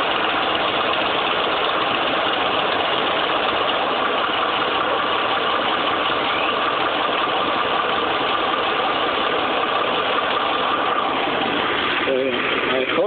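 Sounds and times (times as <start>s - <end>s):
truck engine running with clatter: 0.0s - 13.0s.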